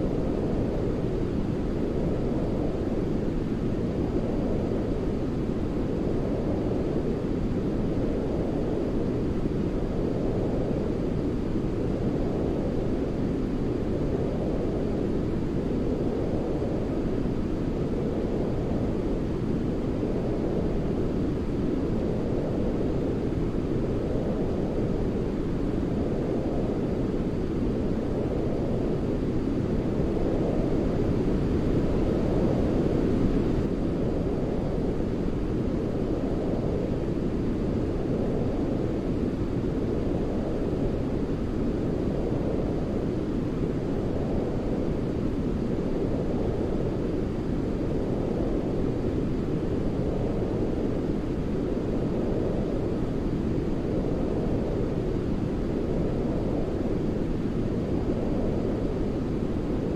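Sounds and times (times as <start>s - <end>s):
muffled brown noise: 0.0s - 59.9s.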